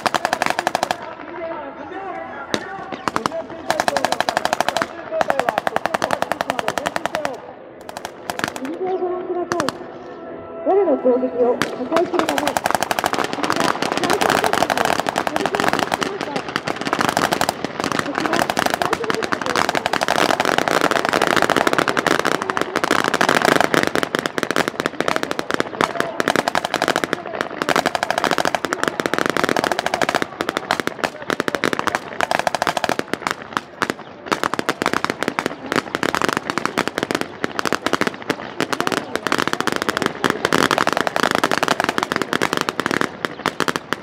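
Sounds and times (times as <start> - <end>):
rapid gunfire: 0.0 - 1.2, 2.5 - 8.8, 11.9 - 44.0.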